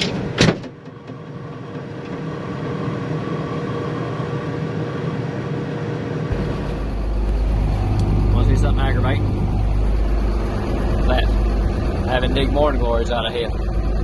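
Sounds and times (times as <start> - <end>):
harvest machinery engine drone: 0.0 - 14.0.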